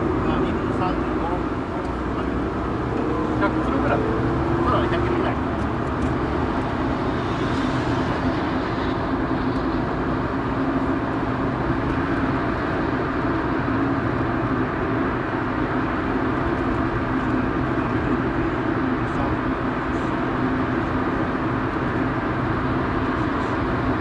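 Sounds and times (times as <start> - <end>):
car engine drone: 0.0 - 24.0
road and tyre noise: 0.0 - 24.0.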